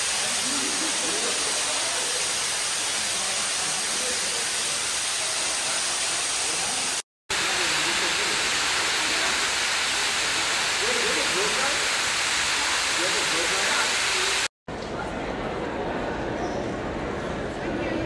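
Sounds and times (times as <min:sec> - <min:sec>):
waterfall pouring into pool: 0:00.0 - 0:14.5.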